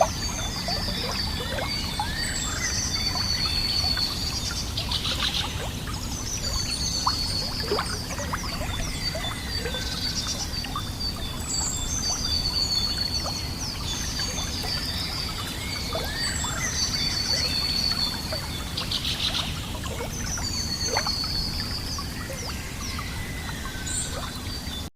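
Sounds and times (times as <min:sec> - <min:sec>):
birds singing and chirping: 0:00.0 - 0:24.9
running water: 0:00.0 - 0:24.9.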